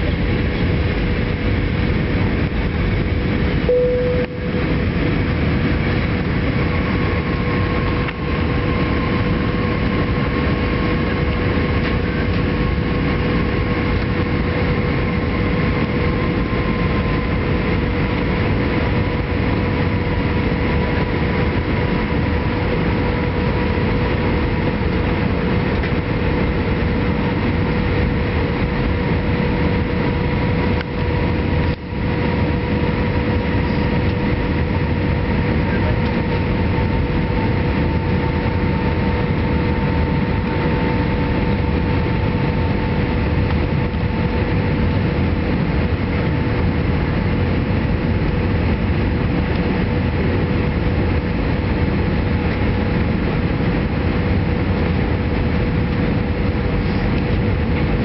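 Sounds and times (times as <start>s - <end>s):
airliner engine rumble: 0.0s - 58.0s
higher whine sinking in pitch: 0.0s - 58.0s
steady whine: 0.0s - 58.0s.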